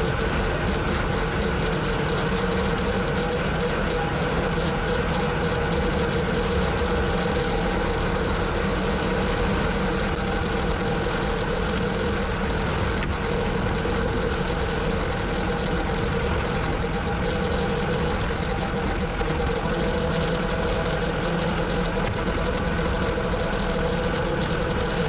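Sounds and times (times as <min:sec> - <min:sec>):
rotary cutter mechanical hum: 0:00.0 - 0:25.0
tractor engine rumbling: 0:00.0 - 0:25.0.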